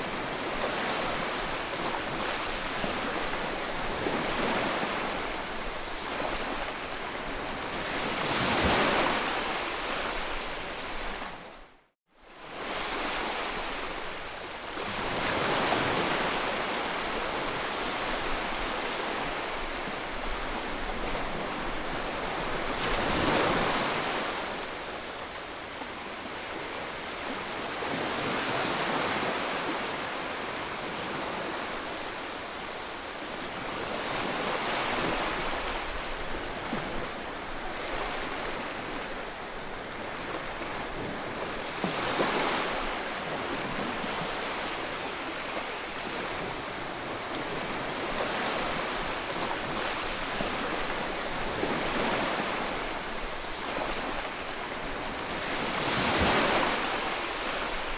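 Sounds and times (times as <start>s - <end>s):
sea waves breaking: 0.0s - 11.5s, 12.4s - 57.9s.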